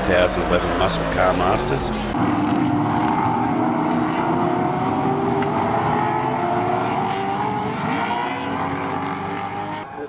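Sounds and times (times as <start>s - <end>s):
racing car engines running: 0.0s - 10.0s.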